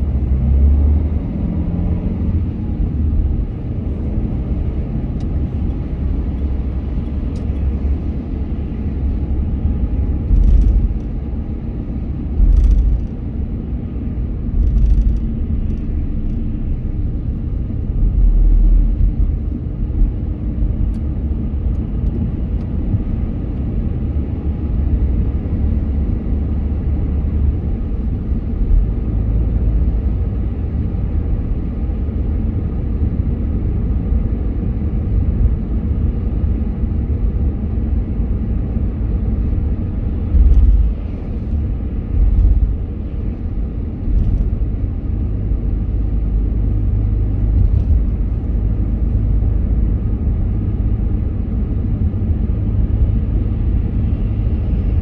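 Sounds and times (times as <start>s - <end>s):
car engine rumble: 0.0s - 55.0s
tyre road noise: 0.0s - 55.0s.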